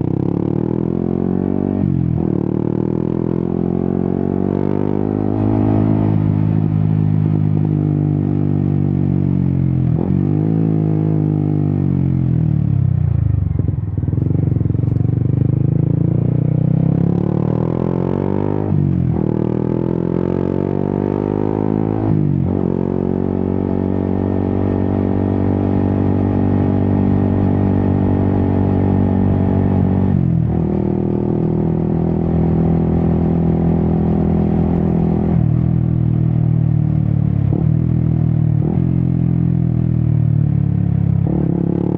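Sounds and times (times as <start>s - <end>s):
motorcycle engine riding on road: 0.0s - 41.9s.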